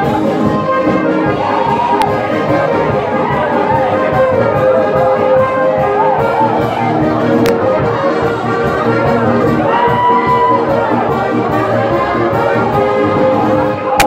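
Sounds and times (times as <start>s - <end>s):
brass band playing melody: 0.0s - 14.0s.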